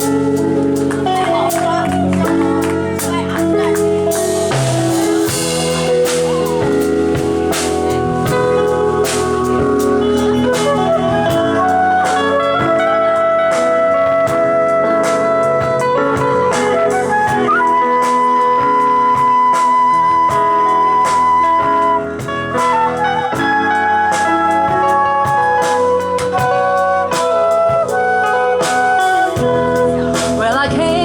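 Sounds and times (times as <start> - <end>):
soul band playing: 0.0 - 31.0
steady drum beat: 0.0 - 31.0.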